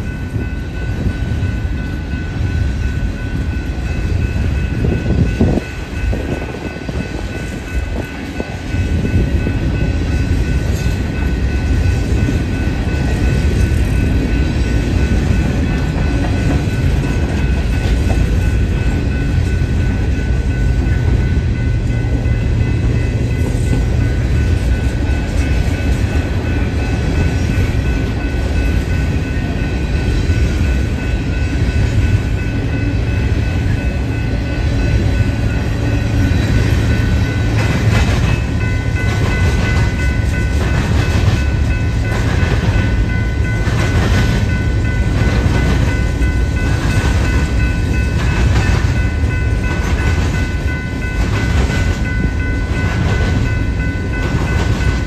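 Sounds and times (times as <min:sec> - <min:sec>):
train cars rumbling on rails: 0:00.0 - 0:55.0.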